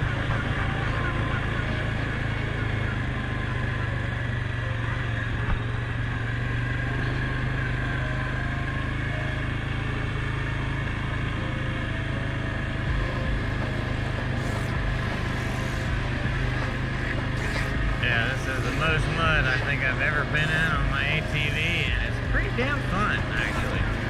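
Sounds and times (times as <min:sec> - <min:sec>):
atv engine running: 0:00.0 - 0:24.0
steady whine: 0:00.0 - 0:24.0.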